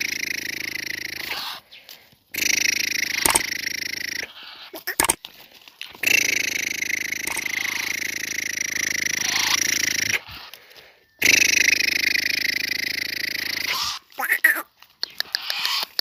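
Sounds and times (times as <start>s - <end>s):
bird harsh buzzing calls: 0.0s - 5.2s, 5.9s - 16.0s.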